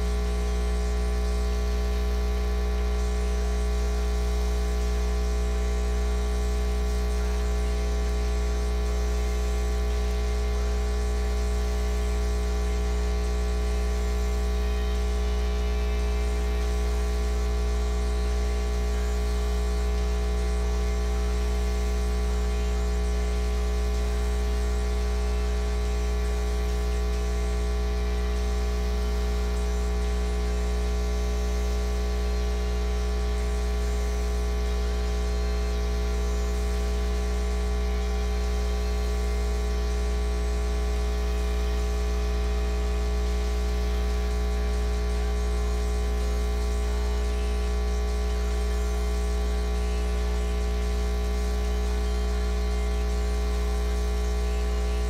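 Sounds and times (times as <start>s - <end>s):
buzz of stacked tones: 0.0s - 55.0s
electrical mains hum: 0.0s - 55.0s.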